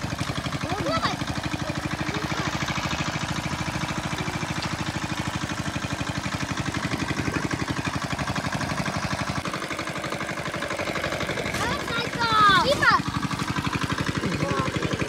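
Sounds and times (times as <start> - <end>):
water pump engine running: 0.0 - 15.0.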